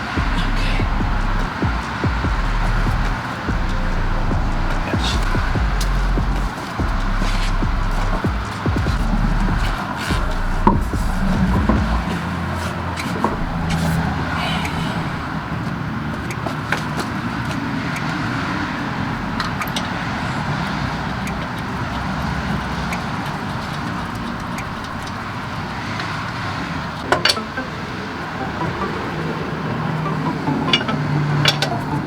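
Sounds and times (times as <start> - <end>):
passing road traffic: 0.0 - 32.0.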